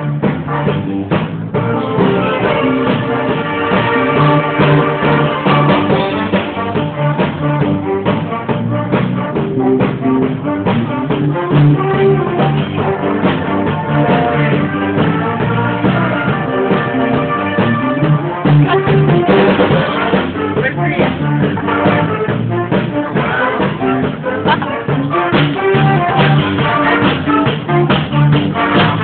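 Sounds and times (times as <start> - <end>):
school band held notes: 0.0 - 29.0
steady drum beat: 0.0 - 29.0.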